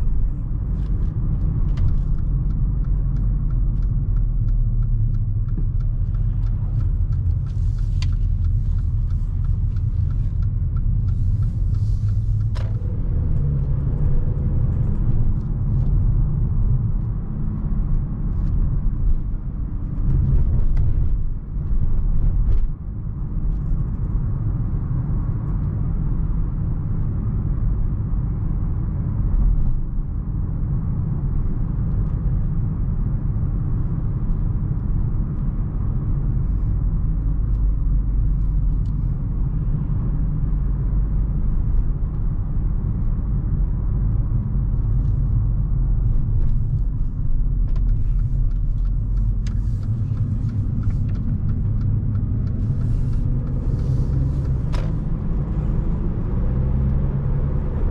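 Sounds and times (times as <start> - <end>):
car engine running: 0.0 - 57.9
road and tyre rumble: 0.0 - 57.9.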